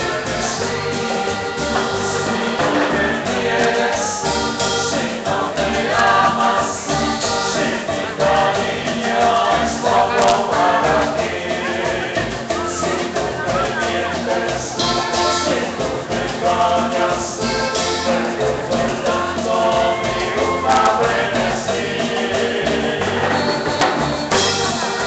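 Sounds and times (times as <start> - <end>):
man singing: 0.0 - 23.6
live latin dance band: 0.0 - 25.0.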